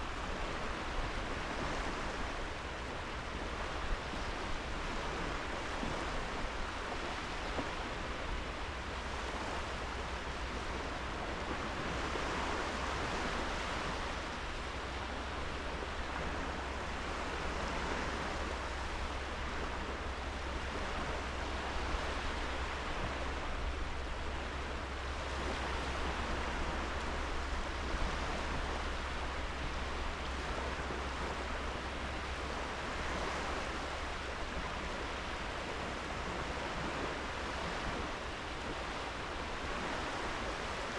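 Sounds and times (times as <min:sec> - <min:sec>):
sea waves washing onto beach: 0:00.0 - 0:40.9.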